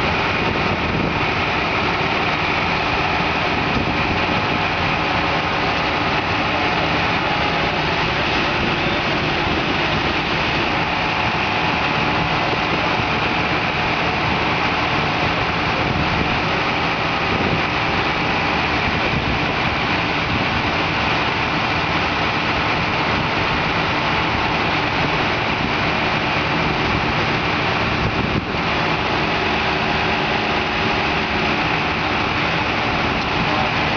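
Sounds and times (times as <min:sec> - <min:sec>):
forklift engine running: 0:00.0 - 0:33.9.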